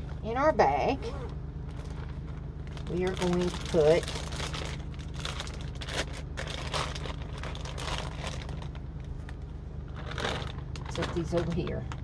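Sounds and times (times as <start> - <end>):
plastic bag crinkling: 1.7 - 12.0.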